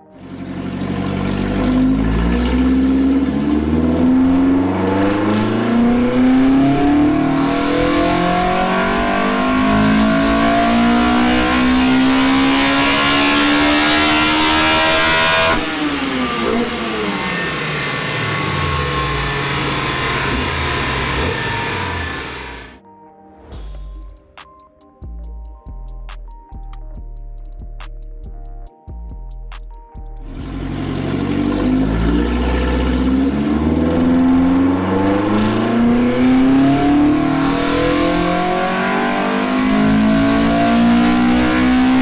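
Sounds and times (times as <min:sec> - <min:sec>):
engine revving at full throttle: 0:00.2 - 0:22.8, 0:30.3 - 0:42.0.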